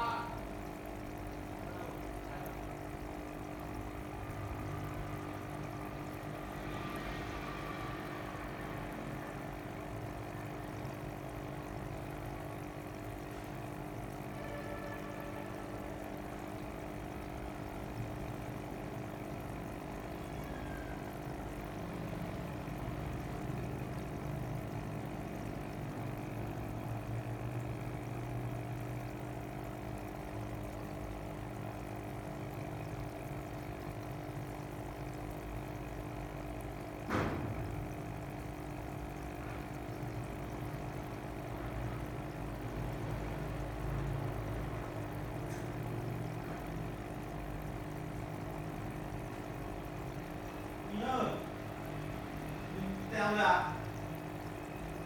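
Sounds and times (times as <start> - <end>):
fish tank pumps humming: 0.0 - 55.0
water pouring and trickling: 0.0 - 55.0.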